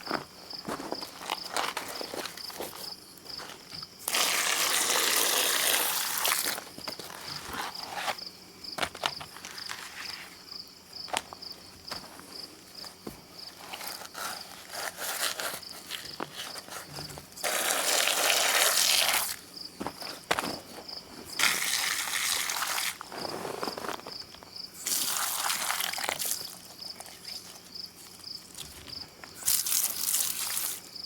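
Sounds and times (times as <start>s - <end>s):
insect chirping in pulses: 1.3s - 31.0s.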